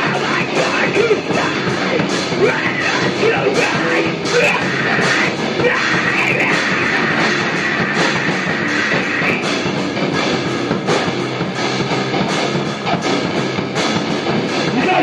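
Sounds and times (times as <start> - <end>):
drum and cymbal hits: 0.0 - 15.0
electric guitar: 0.0 - 15.0
rock band jamming: 0.0 - 15.0.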